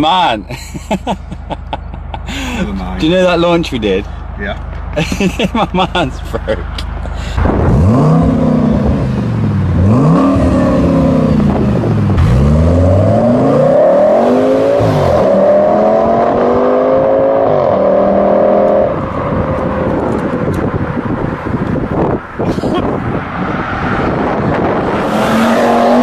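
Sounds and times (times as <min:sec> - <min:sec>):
car engine accelerating hard: 0:04.2 - 0:22.2, 0:22.8 - 0:26.0.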